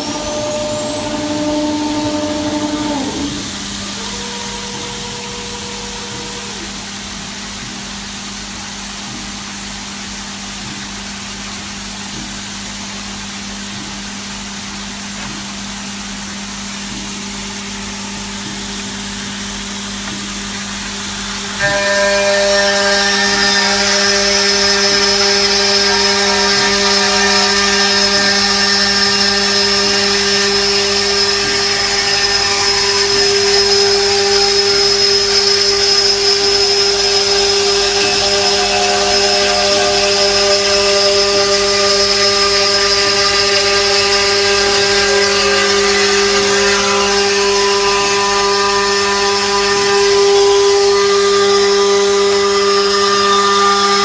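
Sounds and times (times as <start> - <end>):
high machine whine: 0.0 - 54.0
motor hum: 0.0 - 54.0.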